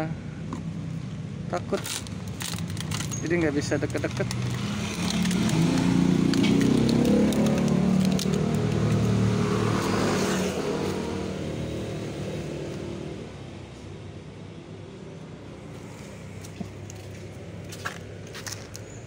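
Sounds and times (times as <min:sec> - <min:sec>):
vehicle engine humming: 0:00.3 - 0:19.0.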